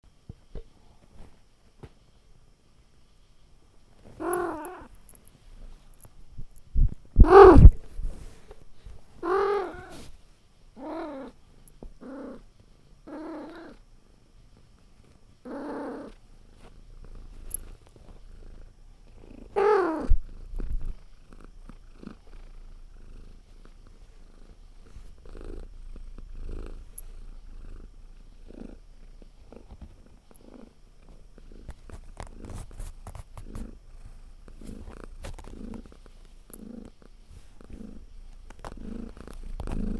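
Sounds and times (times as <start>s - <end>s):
cat purring: 4.1s - 4.9s, 6.8s - 10.1s, 10.8s - 39.9s.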